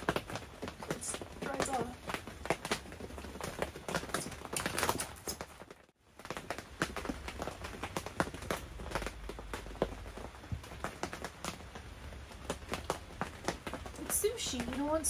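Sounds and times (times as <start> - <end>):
rain pattering on a tent: 0.0 - 15.0.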